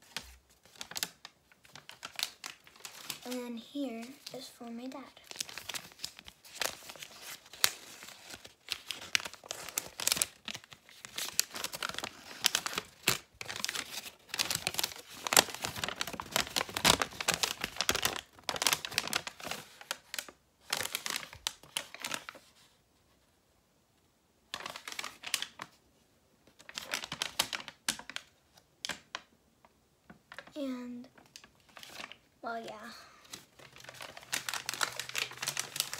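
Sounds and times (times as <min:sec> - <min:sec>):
paper crinkling and rustling: 0:00.0 - 0:22.8, 0:24.5 - 0:25.8, 0:26.5 - 0:29.3, 0:30.1 - 0:35.9.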